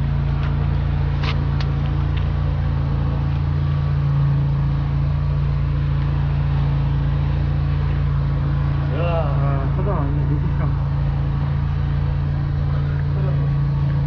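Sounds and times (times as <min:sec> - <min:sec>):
drain jetting machine running: 0:00.0 - 0:14.0.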